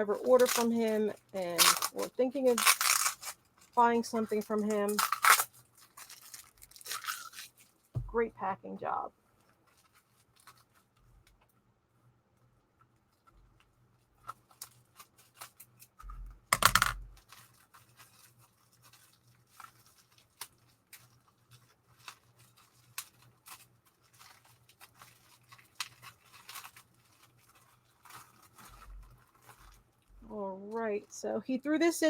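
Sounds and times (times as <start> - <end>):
wrapping ripping: 0.0 - 7.9, 9.5 - 11.0, 14.0 - 30.2
wrapping crinkling and scratching: 0.0 - 32.0.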